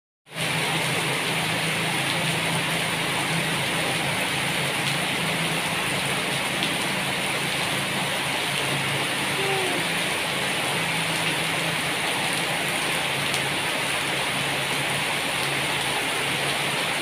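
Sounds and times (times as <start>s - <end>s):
rain falling on leaves: 0.3s - 17.0s.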